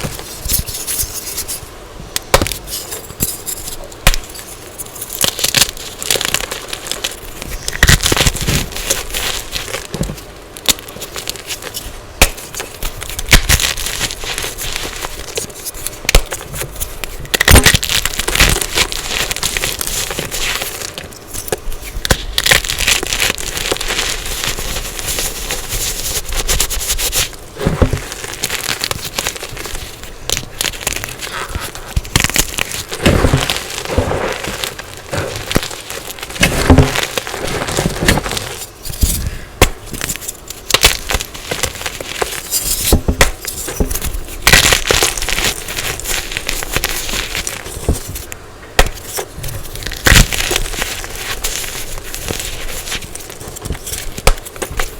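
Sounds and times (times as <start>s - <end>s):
chalk being crushed: 0.0s - 54.9s.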